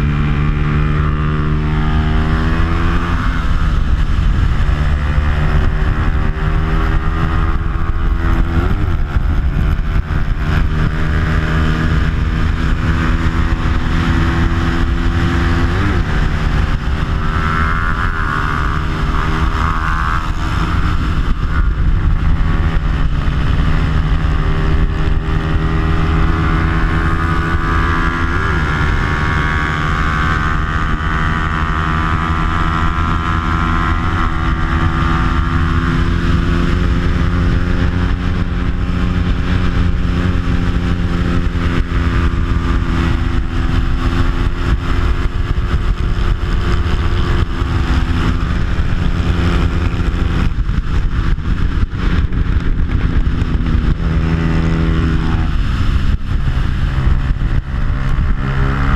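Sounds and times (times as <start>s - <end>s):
motorcycle engine at high revs: 0.0s - 58.9s
wind rush: 0.0s - 58.9s.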